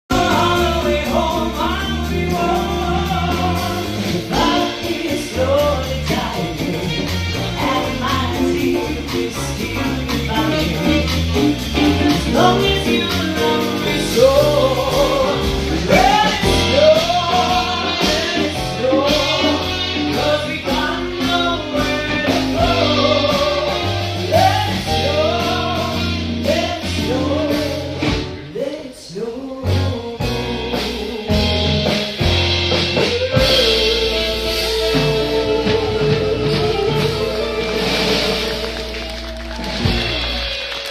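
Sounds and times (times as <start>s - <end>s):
song with singing voice: 0.0s - 40.9s.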